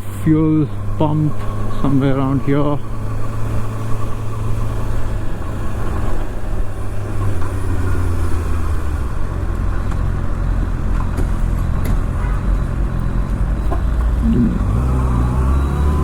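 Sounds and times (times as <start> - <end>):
motorcycle engine low revs: 0.0 - 16.0.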